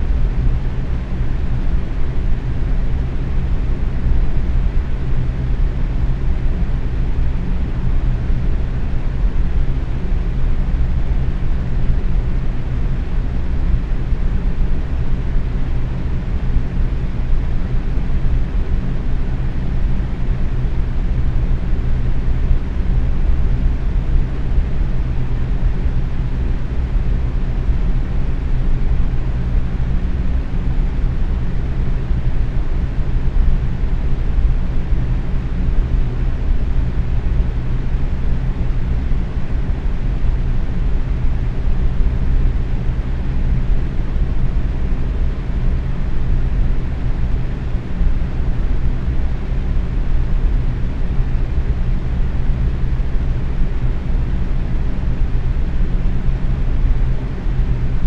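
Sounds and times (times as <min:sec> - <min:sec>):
box fan running: 0:00.0 - 0:58.0.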